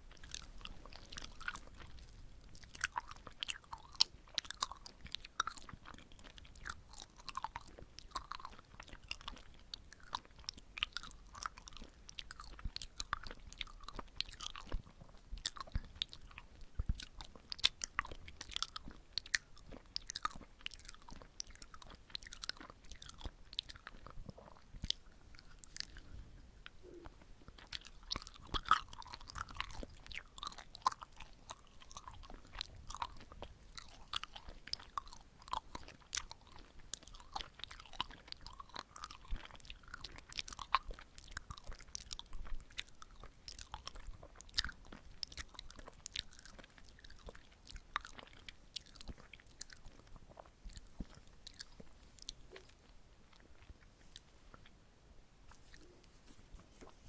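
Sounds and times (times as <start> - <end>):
close-up chewing sticky food: 0.0 - 57.0.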